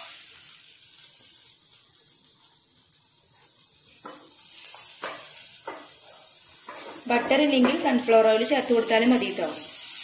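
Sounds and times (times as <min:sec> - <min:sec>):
butter sizzling in frying pan: 0:00.0 - 0:10.0.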